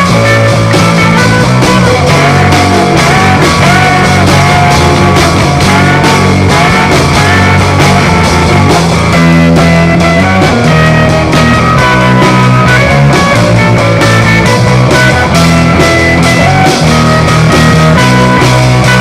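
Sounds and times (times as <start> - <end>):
rock music with guitar: 0.0 - 19.0.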